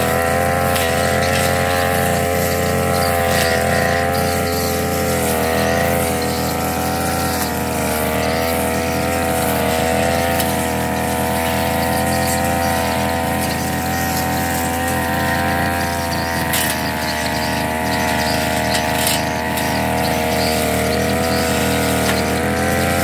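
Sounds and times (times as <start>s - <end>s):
brush cutter engine cutting grass: 0.0s - 23.0s.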